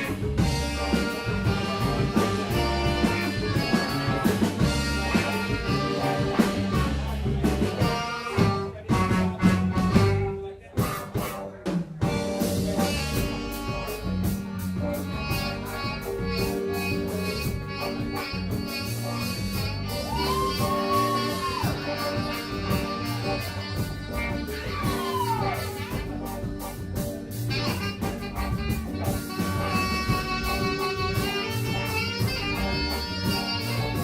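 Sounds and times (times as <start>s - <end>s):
live band music: 0.0s - 34.0s.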